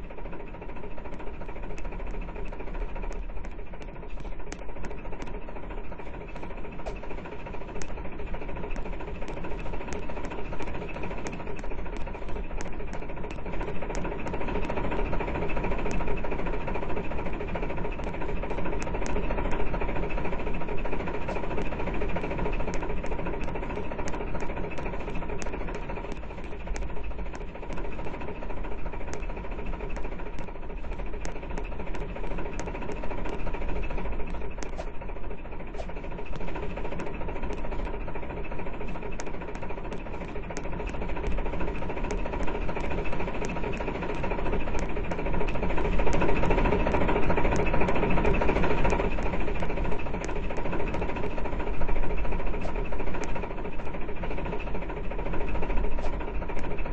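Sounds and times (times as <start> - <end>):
sharp ticks: 0.0 - 56.9.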